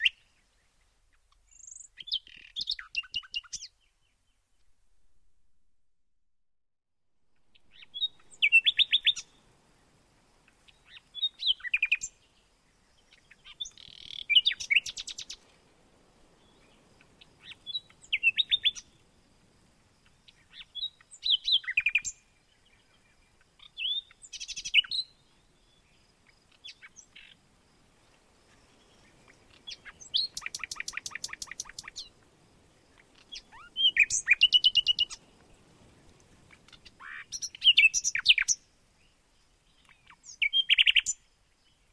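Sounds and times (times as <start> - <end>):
songbird singing: 0.0 - 5.4, 7.2 - 41.9.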